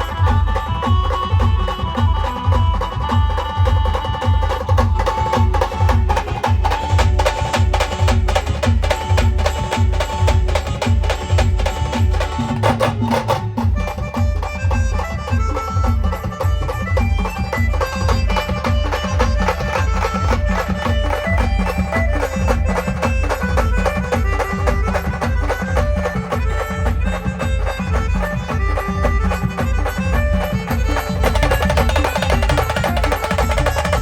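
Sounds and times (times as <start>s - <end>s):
steady dense drum beat: 0.0s - 34.0s
wind instrument melody: 0.0s - 34.0s.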